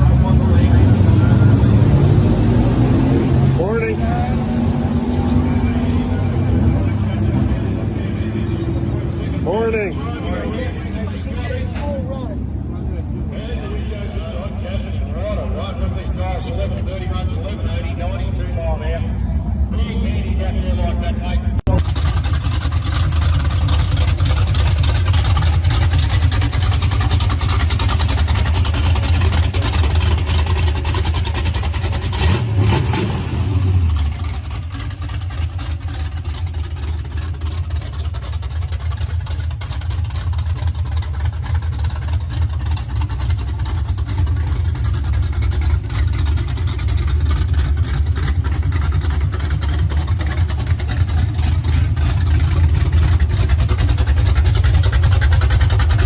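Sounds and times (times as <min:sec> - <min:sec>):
drag car engine running: 0:00.0 - 0:56.0.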